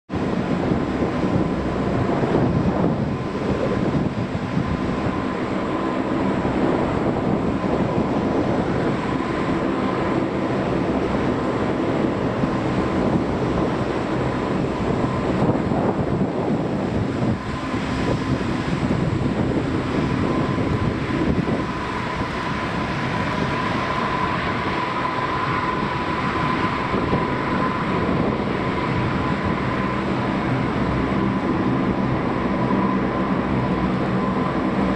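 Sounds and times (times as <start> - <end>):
high turbine whine: 0.1 - 34.9
turboprop engines droning: 0.1 - 34.9.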